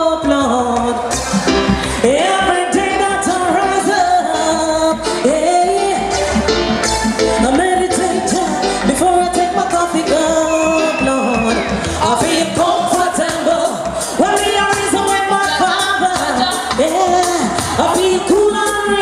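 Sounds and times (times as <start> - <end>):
woman singing: 0.0 - 1.2, 2.0 - 6.5, 7.3 - 19.0
reggae music on sound system: 0.0 - 19.0.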